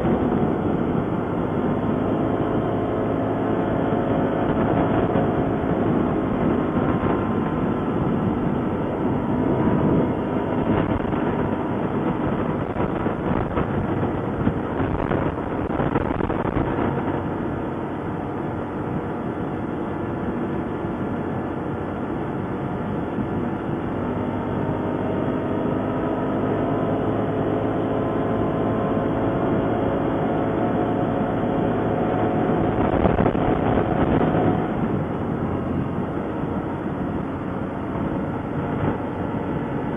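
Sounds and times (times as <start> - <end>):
atv engine running: 0.0 - 39.9
ride rumble: 0.0 - 39.9.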